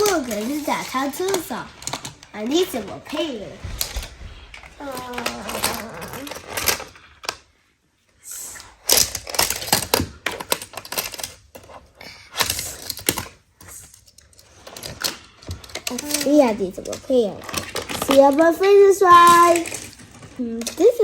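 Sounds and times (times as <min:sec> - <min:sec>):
plastic toys clicking and clattering: 0:00.0 - 0:21.0.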